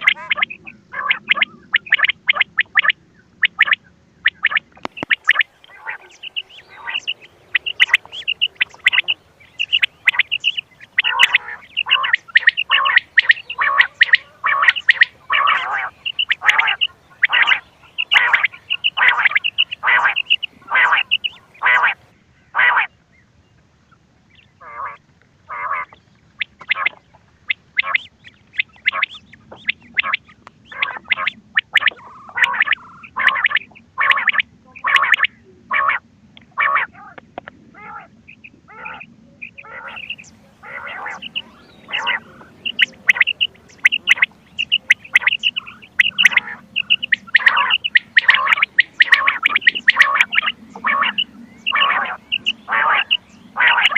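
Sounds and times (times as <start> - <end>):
quail calls: 0.0 - 22.9, 24.4 - 53.9.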